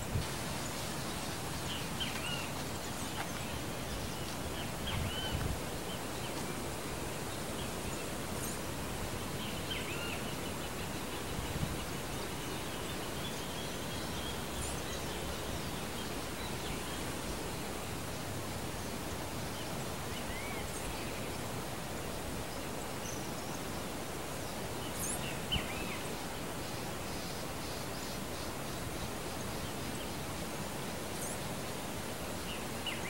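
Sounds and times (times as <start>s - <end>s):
outdoor ambient hiss: 0.0s - 33.0s.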